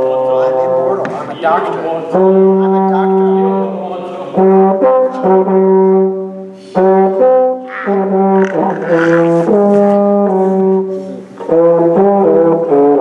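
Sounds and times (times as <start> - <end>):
brass instrument playing held notes: 0.1 - 13.0.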